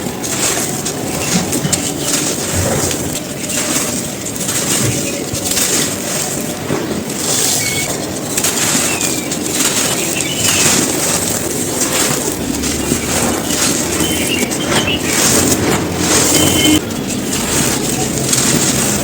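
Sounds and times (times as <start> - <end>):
dry cones crunching: 0.0 - 19.0.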